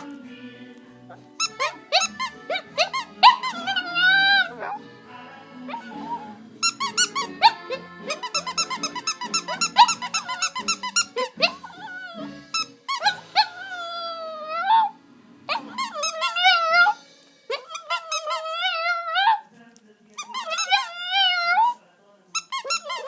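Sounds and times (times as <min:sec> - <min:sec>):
puppy squeaking: 0:01.1 - 0:04.9, 0:05.7 - 0:19.5, 0:20.2 - 0:23.0
puppy wavering cries: 0:01.1 - 0:04.9, 0:05.6 - 0:19.5, 0:20.2 - 0:21.8, 0:22.4 - 0:23.0.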